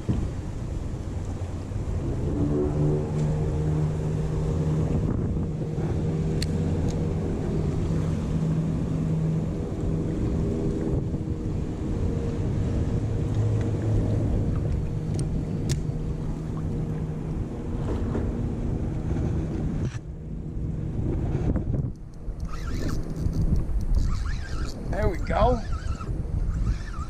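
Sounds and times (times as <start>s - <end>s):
engine drone: 0.0s - 27.0s
water and wind noise: 0.0s - 27.0s.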